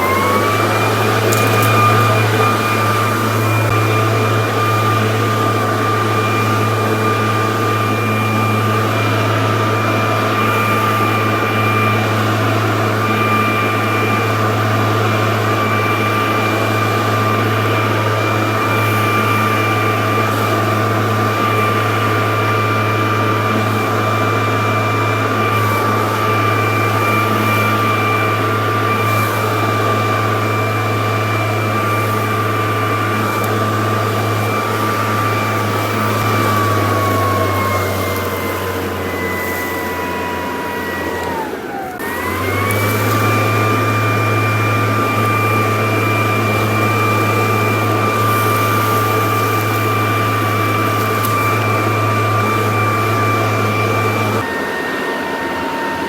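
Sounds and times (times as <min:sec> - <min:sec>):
leaf blower running: 0:00.0 - 0:56.0.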